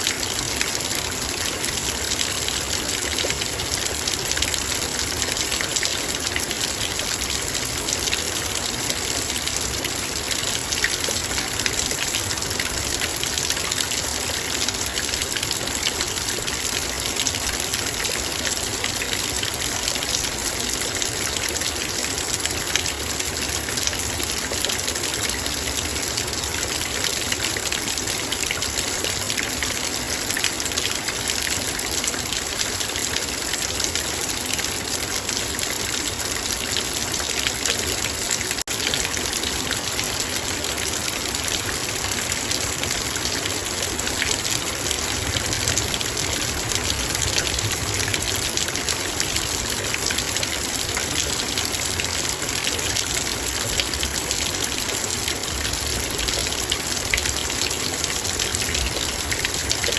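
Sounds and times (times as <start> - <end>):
heavy rain on metal bowl: 0.0 - 59.9.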